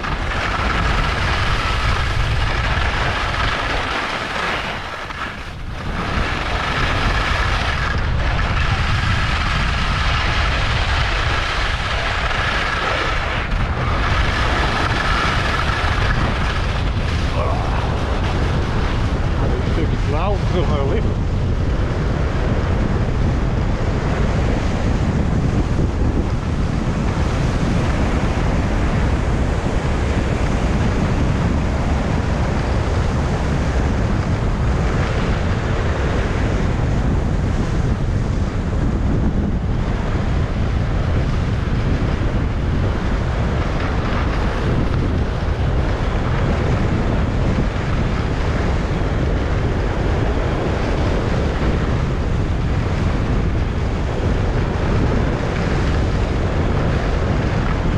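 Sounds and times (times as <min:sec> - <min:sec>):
skis gliding over snow: 0:00.0 - 0:57.9
wind buffeting microphone: 0:00.0 - 0:57.9.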